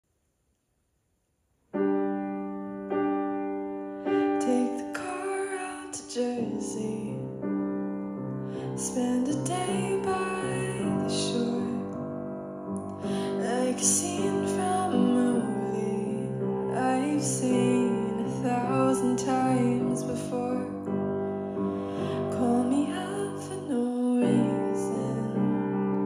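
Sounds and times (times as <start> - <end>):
solo piano chords: 1.7 - 26.0.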